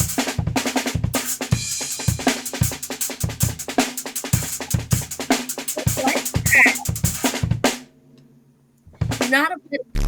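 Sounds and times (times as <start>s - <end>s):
drum kit fast groove: 0.0s - 7.9s, 8.9s - 9.4s.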